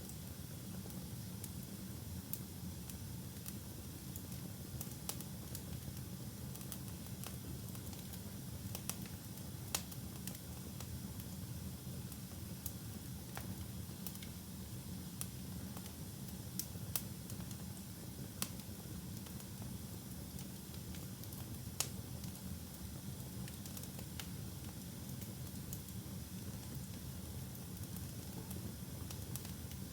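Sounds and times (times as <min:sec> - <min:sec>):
fire crackling and popping: 0:00.1 - 0:29.9.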